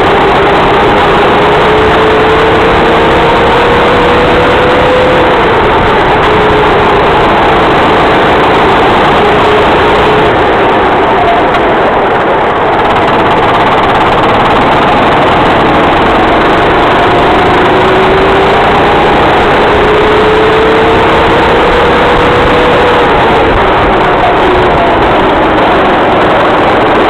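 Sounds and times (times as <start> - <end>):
loud steady rushing noise: 0.0 - 27.0
racing kart engine running hard: 0.0 - 27.0.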